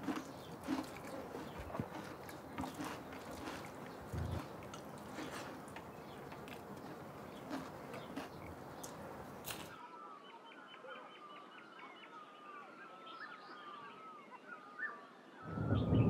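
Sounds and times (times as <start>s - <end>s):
small birds chirping: 0.0s - 9.8s, 12.8s - 16.0s.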